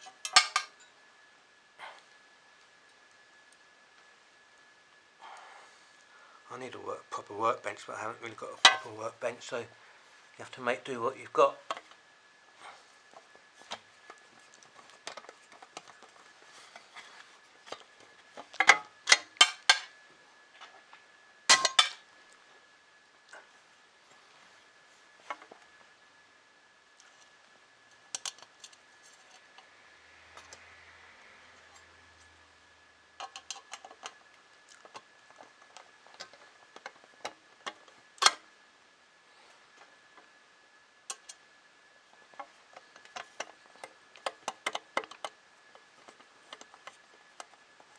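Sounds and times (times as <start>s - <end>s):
faint steady high whine: 0.0s - 47.9s.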